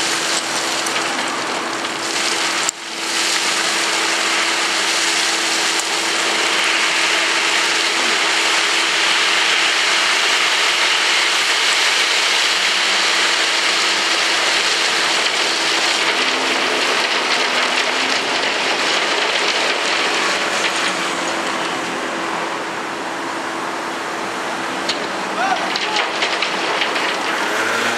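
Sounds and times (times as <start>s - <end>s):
gravel pouring onto a heap: 0.0s - 22.1s, 25.4s - 27.9s
truck engine hum: 0.0s - 27.9s.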